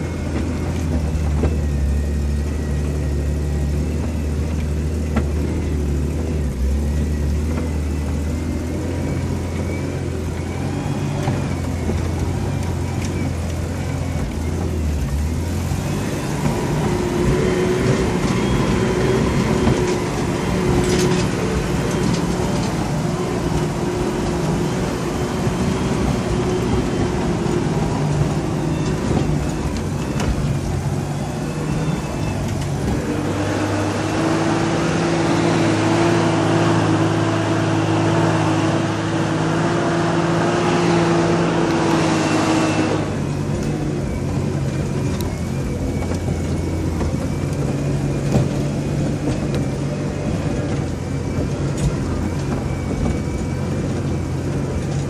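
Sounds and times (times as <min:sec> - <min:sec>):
road noise: 0:00.0 - 0:55.0
vehicle engine pulling uphill: 0:00.0 - 0:55.0.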